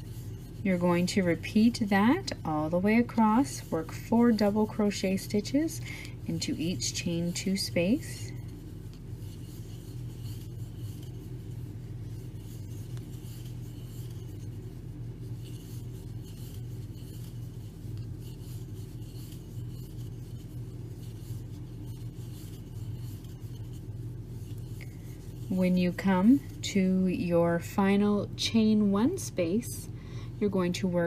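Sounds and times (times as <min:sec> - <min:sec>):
crochet hook rubbing yarn: 0:00.0 - 0:29.6
steady low hum: 0:00.0 - 0:31.0.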